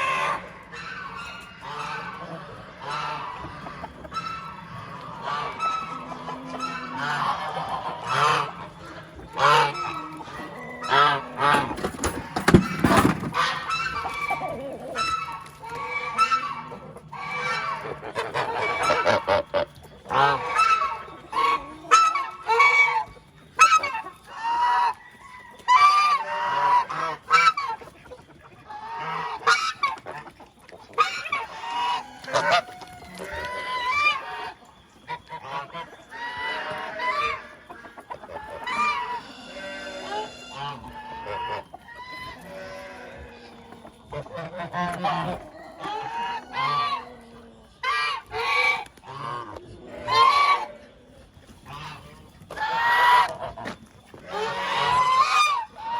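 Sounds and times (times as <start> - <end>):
geese honking: 0.0 - 55.9.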